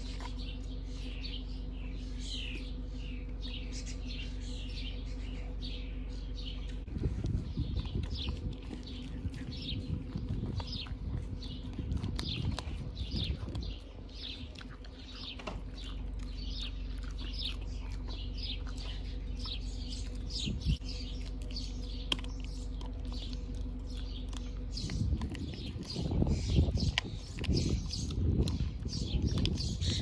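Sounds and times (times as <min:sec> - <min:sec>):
dog crunching chew: 0:00.0 - 0:02.6, 0:06.6 - 0:30.0
small bird chirping: 0:00.0 - 0:30.0
steady low hum: 0:00.0 - 0:30.0.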